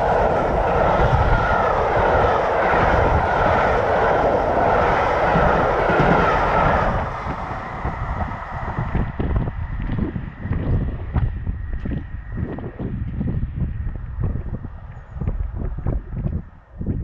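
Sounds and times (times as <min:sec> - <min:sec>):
train coaches rumbling past: 0:00.0 - 0:17.0.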